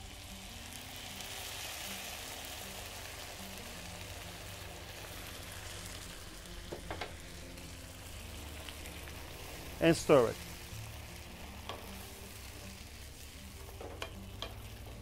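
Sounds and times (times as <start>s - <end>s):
tomato sizzling in frying pan: 0.0s - 15.0s.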